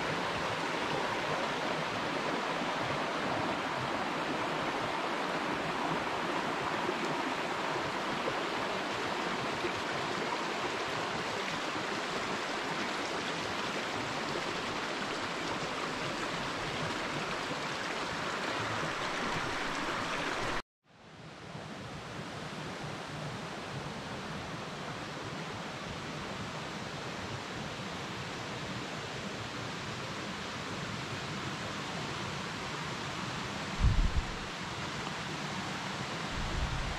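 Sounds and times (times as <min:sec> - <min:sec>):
steady rushing outdoor noise: 0:00.0 - 0:20.6, 0:21.2 - 0:36.9.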